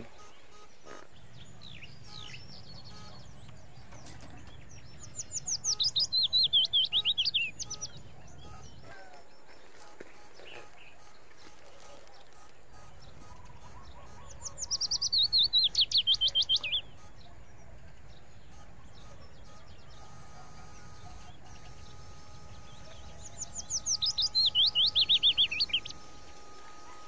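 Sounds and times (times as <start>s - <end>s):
bird singing high notes: 0.0s - 17.8s, 18.4s - 27.0s.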